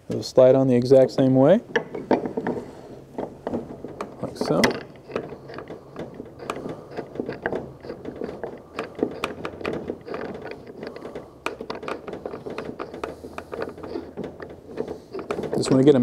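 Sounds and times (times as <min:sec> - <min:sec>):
clamp clicking and knocking: 0:01.2 - 0:16.0.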